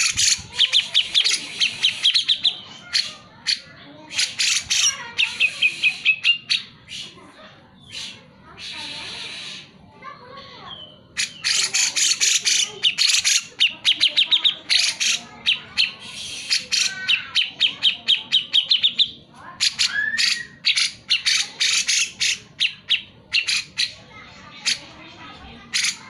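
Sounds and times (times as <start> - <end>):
bird harsh chattering calls: 0.0 - 9.8, 10.6 - 26.0.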